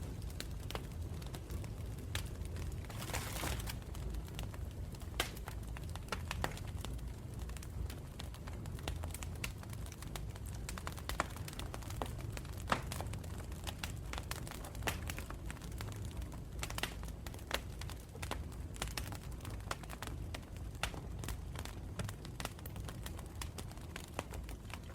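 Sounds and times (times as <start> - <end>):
low rumble of flames: 0.0 - 24.9
wood crackling and popping: 0.0 - 24.9.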